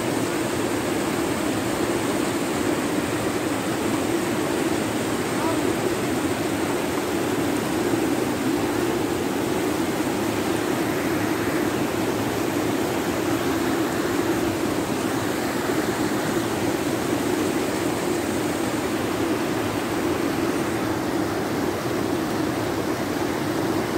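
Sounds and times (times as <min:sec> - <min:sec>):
rushing floodwater: 0:00.0 - 0:23.9.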